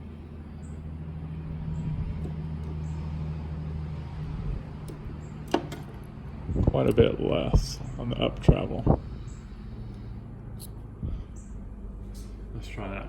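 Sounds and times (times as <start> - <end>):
garage door opener motor humming: 0.0 - 12.4.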